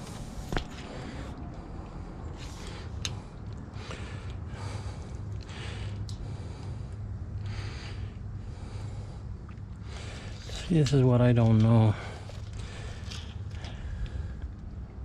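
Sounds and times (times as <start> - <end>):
person breathing: 0.0 - 10.6, 11.9 - 14.6
low steady hum: 0.0 - 15.0.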